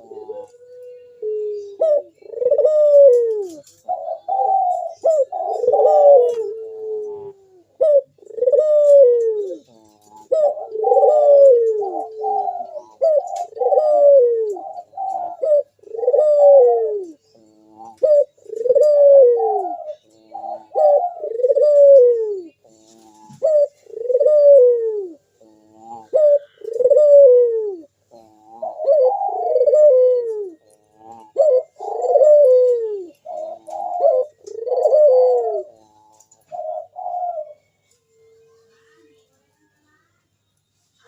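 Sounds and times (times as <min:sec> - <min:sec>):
dove cooing: 0:00.0 - 0:39.8.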